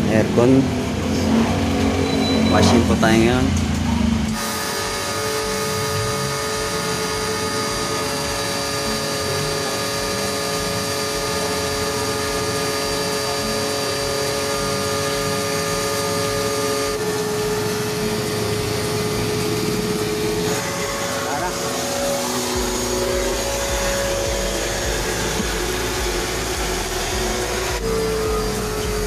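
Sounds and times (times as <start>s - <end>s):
pressure washer motor whine: 0.0s - 29.0s.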